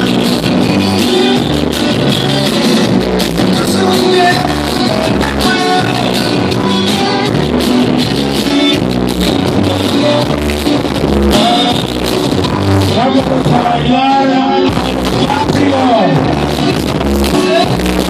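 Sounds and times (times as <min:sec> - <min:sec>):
loud music with singing: 0:00.0 - 0:18.0.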